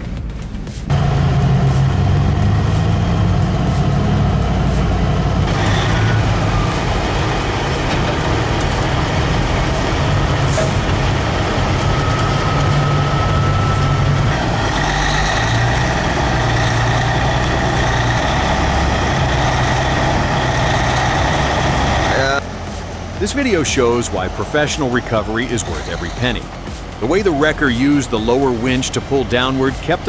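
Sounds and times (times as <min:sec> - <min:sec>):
truck diesel engine running hard: 0:00.0 - 0:30.0
steady high whine: 0:00.8 - 0:30.0.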